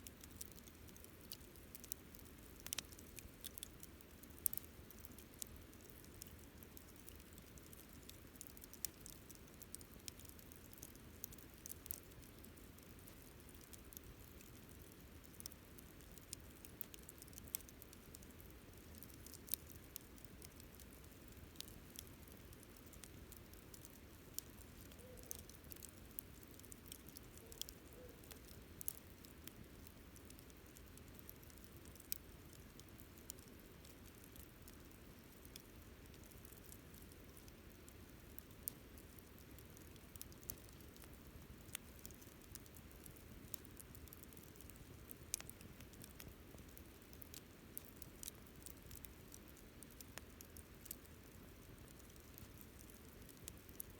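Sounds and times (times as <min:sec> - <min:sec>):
campfire crackling: 0:00.0 - 0:53.9
faint low hiss: 0:00.0 - 0:53.9.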